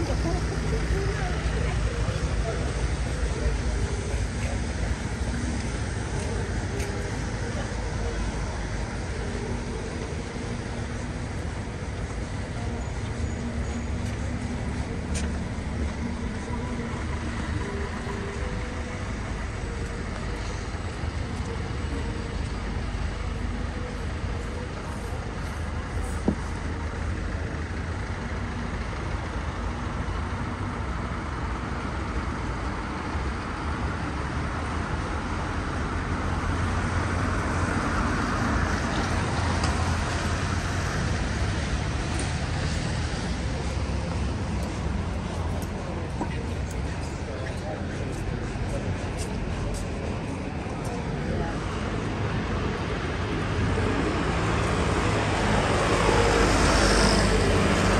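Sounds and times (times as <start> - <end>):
street traffic rumble: 0.0 - 57.9.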